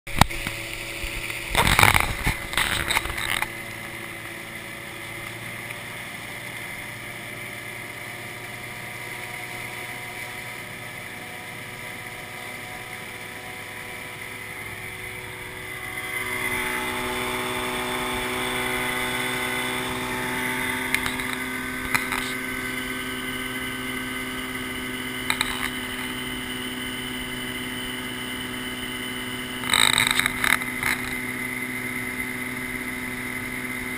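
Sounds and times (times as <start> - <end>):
outboard motor running: 0.1 - 33.9.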